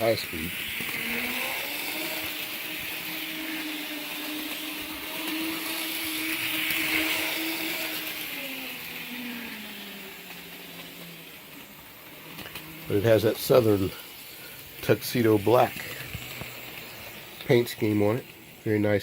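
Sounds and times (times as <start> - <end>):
hiss: 0.0 - 19.0
model train motor whine: 0.0 - 19.0.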